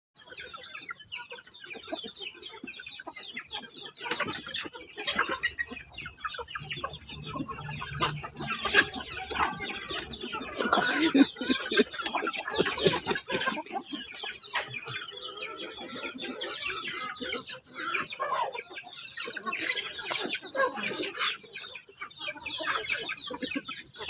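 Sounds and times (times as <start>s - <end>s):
poultry clucking and chirping: 0.2s - 24.0s.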